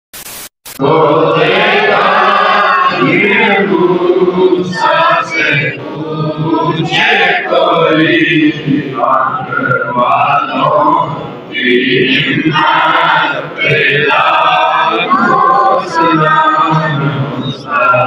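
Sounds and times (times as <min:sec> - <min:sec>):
congregation chanting in unison: 0:00.8 - 0:18.0.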